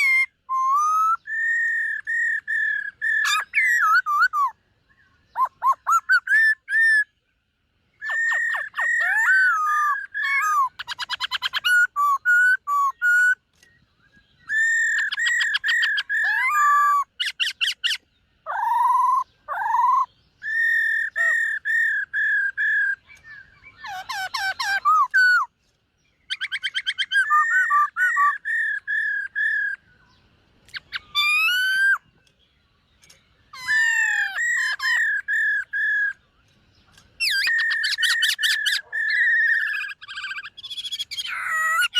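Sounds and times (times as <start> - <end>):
bird singing whistled phrases: 0.0 - 7.2, 8.0 - 25.5, 26.2 - 32.3, 33.0 - 36.3, 36.9 - 41.9.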